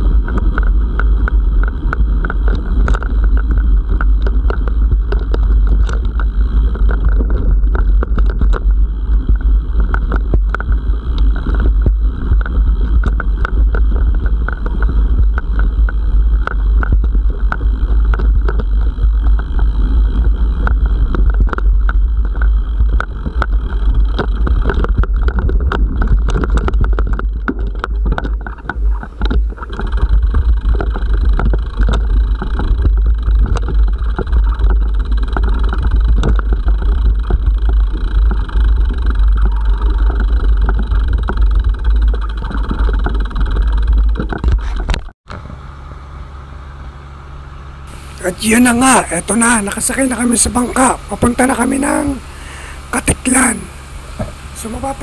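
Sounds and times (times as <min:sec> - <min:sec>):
wind on microphone: 0:00.0 - 0:45.2
bike riding rumble: 0:00.0 - 0:55.0.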